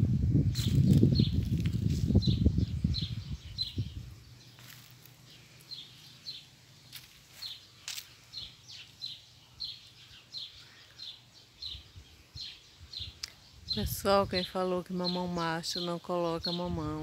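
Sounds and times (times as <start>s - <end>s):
bird chirping: 0.6s - 17.0s.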